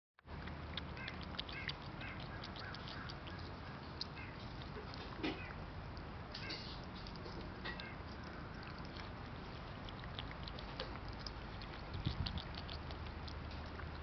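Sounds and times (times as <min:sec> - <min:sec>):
cat lapping liquid: 0:00.2 - 0:14.0.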